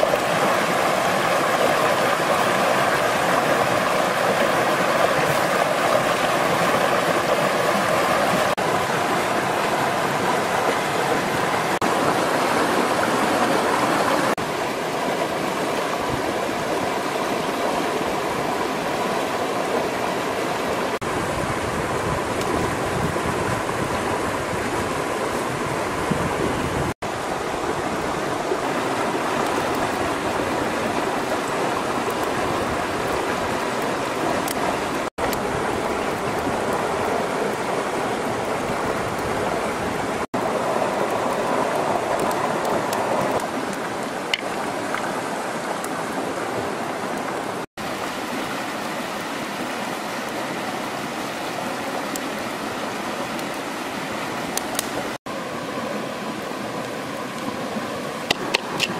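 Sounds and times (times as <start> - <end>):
creek rushing over stones: 0.0 - 58.9.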